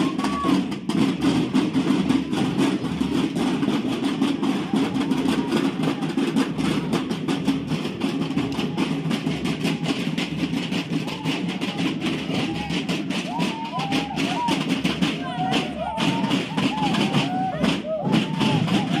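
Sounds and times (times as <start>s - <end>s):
snare drums marching cadence: 0.0s - 19.0s.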